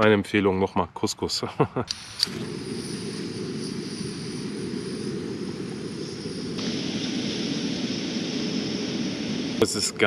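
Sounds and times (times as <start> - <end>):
bright hiss: 1.9 - 10.0
gas stove burning roar: 1.9 - 10.0.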